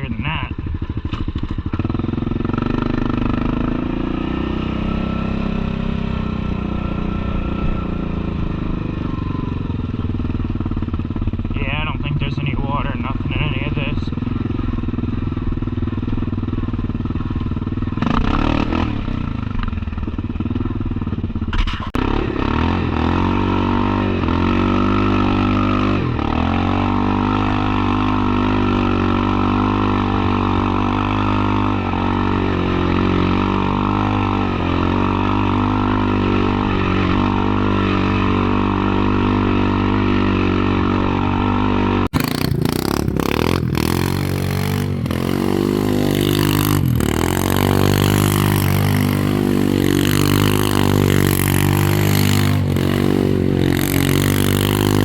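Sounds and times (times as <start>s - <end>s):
atv engine running under load: 0.0s - 55.0s.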